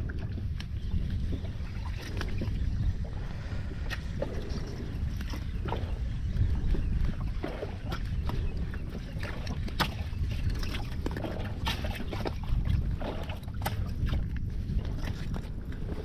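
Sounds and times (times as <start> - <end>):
low rumble: 0.0 - 16.0
water lapping against boat: 0.0 - 16.0.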